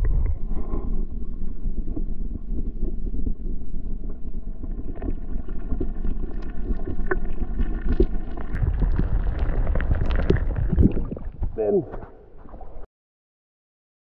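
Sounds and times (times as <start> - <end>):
muffled underwater river rumble: 0.0 - 12.9.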